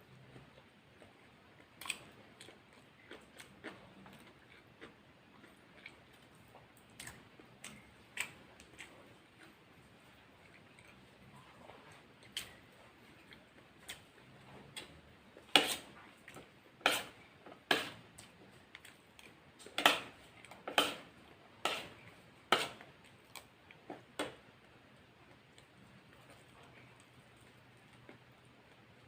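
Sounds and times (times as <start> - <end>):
chewing crunchy food: 0.1 - 29.0.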